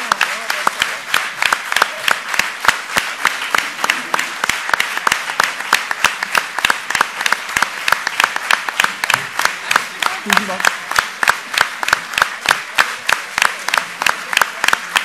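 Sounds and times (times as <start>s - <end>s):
audience clapping in unison: 0.0s - 15.0s.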